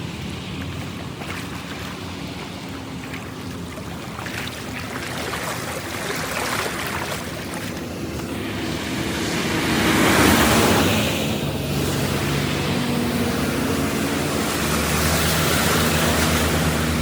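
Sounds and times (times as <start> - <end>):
water rushing and splashing: 0.0 - 17.0.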